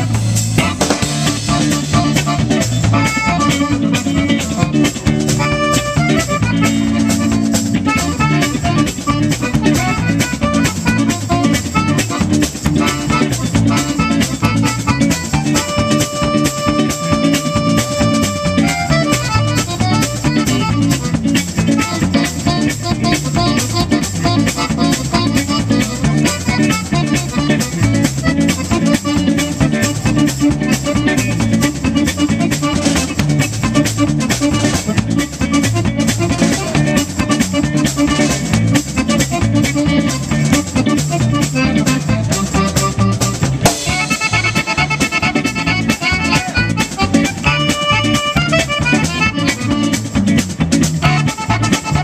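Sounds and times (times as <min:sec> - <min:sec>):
drum kit beat: 0:00.0 - 0:52.0
guitar: 0:00.0 - 0:52.0
live band instrumental: 0:00.0 - 0:52.0.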